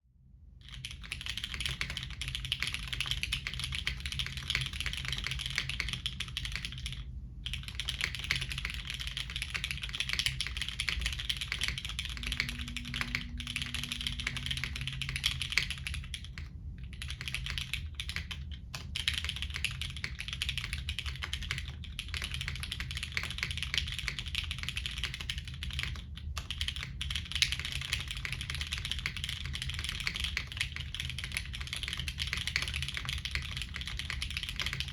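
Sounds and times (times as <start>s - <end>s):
mechanical keyboard typing: 0.7s - 34.9s.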